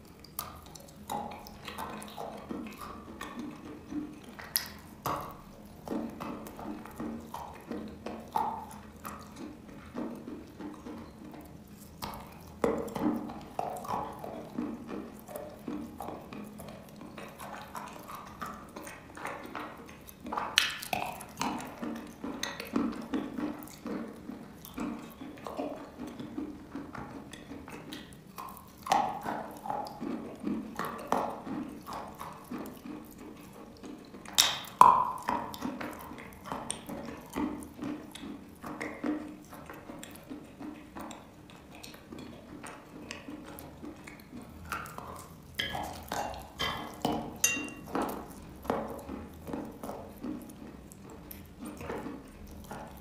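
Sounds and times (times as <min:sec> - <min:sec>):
person chewing wet chalk: 0:00.0 - 0:53.0.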